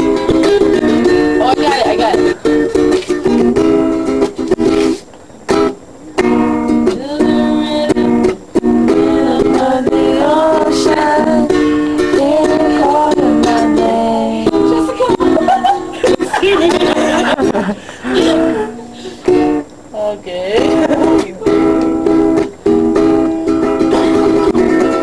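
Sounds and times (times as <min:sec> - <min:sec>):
ukulele strumming chords: 0:00.0 - 0:19.7, 0:20.6 - 0:25.0.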